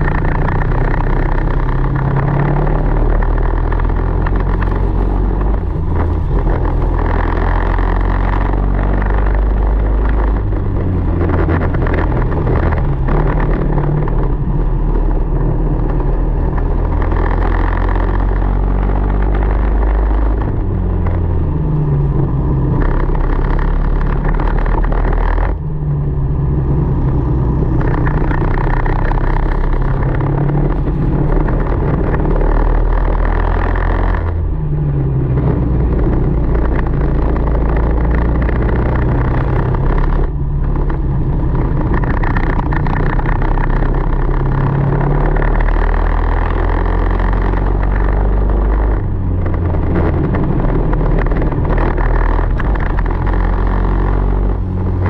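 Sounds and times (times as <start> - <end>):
kart engine revving: 0.0 - 25.7, 26.3 - 55.0.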